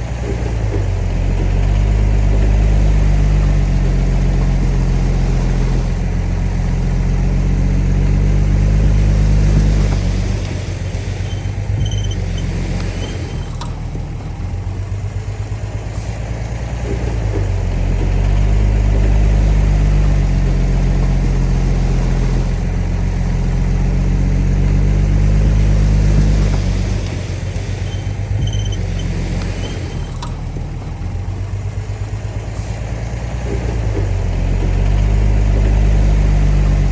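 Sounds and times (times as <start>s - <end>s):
bulldozer diesel engine: 0.0s - 36.9s.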